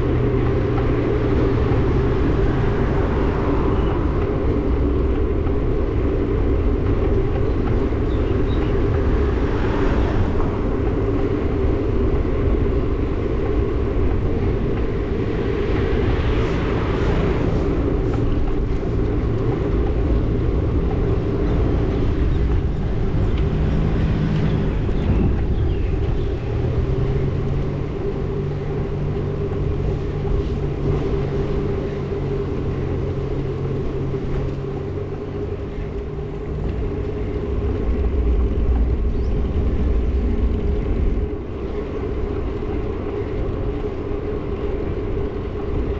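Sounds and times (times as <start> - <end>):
vehicle engine and road noise: 0.0 - 45.9.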